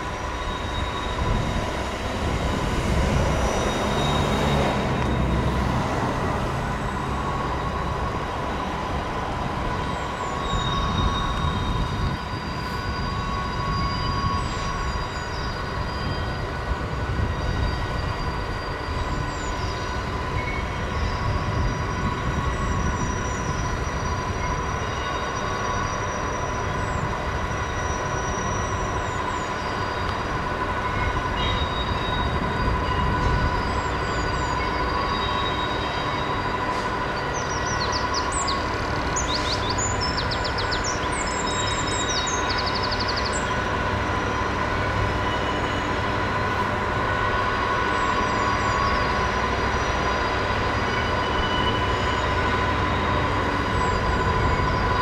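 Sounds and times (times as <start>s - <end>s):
train rumbling past: 0.0s - 55.0s
train wheels squealing: 0.0s - 55.0s.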